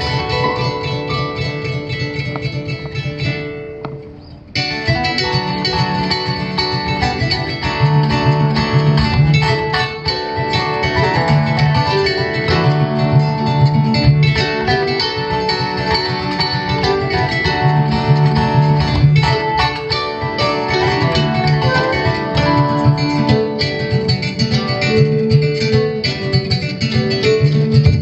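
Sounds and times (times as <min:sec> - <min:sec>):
plucked string ensemble music: 0:00.0 - 0:28.0.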